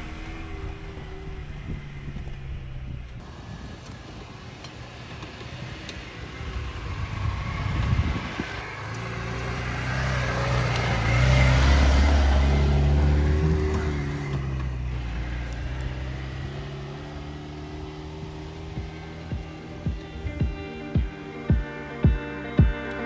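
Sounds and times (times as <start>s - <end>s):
car engine climbing slowly: 0.0s - 23.0s.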